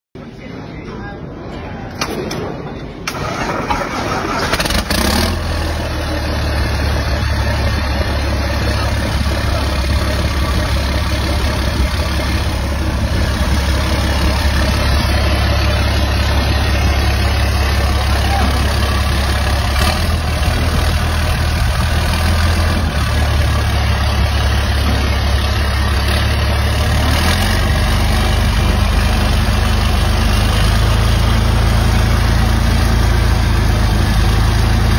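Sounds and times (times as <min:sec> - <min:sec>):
diesel engine idling: 0:03.1 - 0:34.9.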